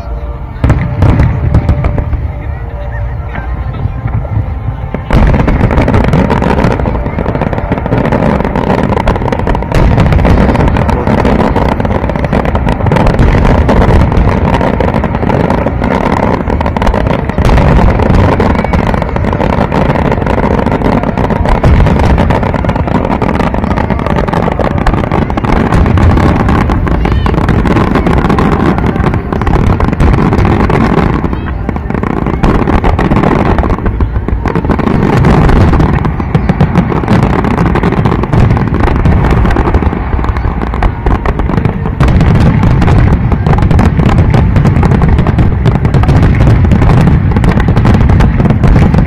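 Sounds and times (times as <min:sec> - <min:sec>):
fireworks booming and crackling: 0:00.0 - 0:49.0.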